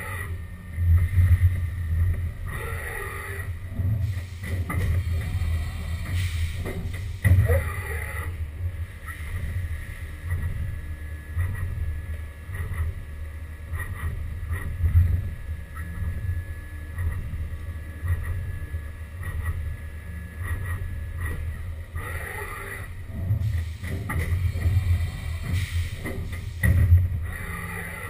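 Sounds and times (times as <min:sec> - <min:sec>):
milling machine whine and rumble: 0:00.0 - 0:28.0.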